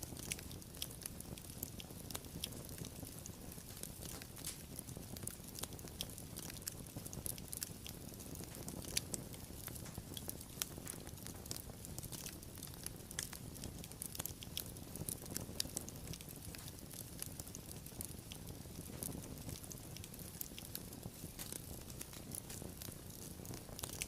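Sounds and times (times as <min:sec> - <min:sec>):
low rumble of burning: 0:00.0 - 0:24.0
wood fire crackling: 0:00.0 - 0:24.0.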